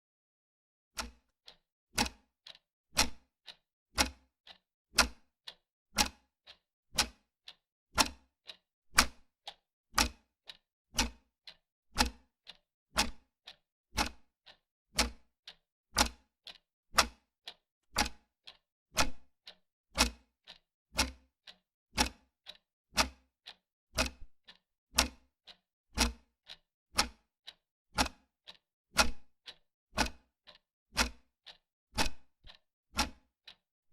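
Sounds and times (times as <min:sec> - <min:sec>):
clock ticking: 0:01.0 - 0:14.3, 0:15.0 - 0:25.2, 0:26.0 - 0:33.6.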